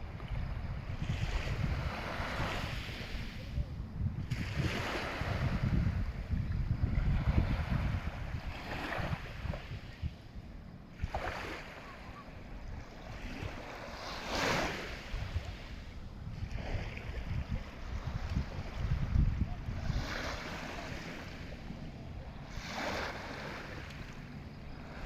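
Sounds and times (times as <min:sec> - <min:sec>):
sea waves breaking on shore: 0:00.0 - 0:25.0
wind buffeting microphone: 0:00.0 - 0:25.0.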